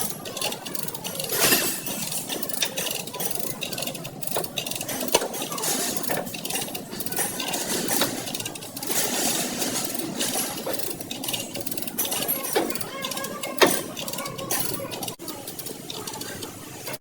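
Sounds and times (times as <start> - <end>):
machine clatter: 0.0 - 17.0.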